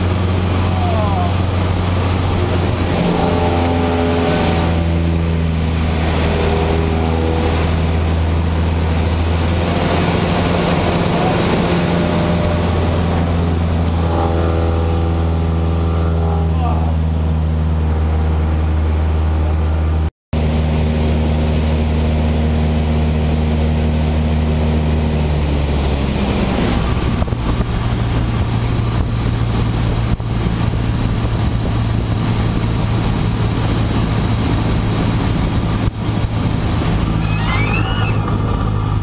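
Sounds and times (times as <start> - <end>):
propeller plane engine droning: 0.0 - 39.0.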